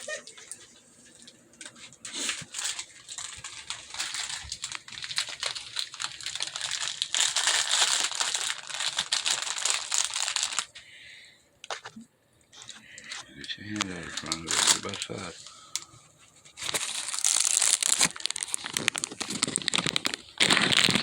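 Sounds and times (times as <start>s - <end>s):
gift wrapping crinkling: 0.0s - 10.8s, 12.6s - 21.0s.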